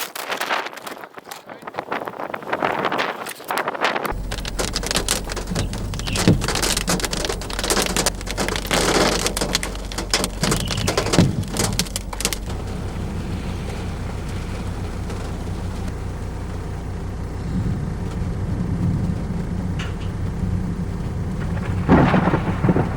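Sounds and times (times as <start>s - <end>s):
heavy rain pelting: 3.6s - 22.9s
steady low hum: 4.1s - 22.9s.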